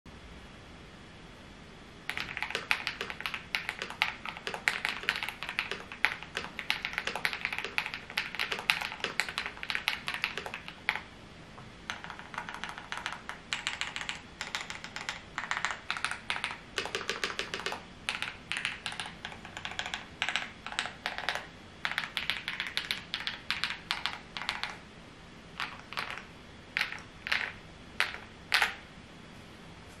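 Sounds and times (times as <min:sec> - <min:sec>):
mechanical keyboard keys clacking: 0:02.1 - 0:11.1, 0:11.9 - 0:24.8, 0:25.6 - 0:28.8.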